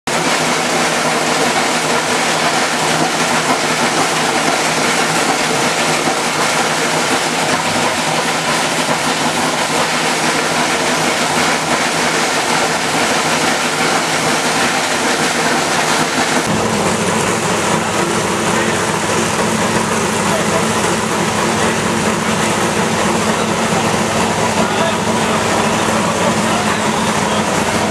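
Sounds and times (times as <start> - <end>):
race car engine idling: 0.1 - 27.9.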